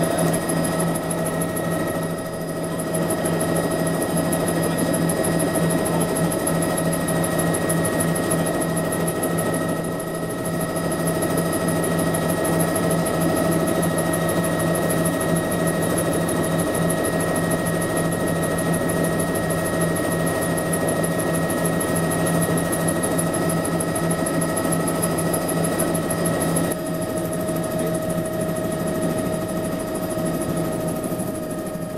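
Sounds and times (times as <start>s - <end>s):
helicopter turbine whining: 0.0s - 31.9s.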